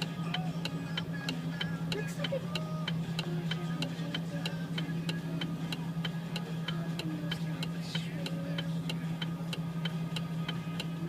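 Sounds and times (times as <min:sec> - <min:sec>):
hazard light flasher ticking: 0:00.0 - 0:11.0
steady low hum: 0:00.0 - 0:11.0.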